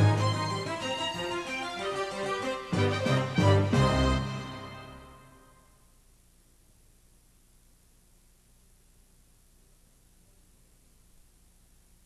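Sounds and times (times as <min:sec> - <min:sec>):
faint tape hiss: 0:00.0 - 0:12.0.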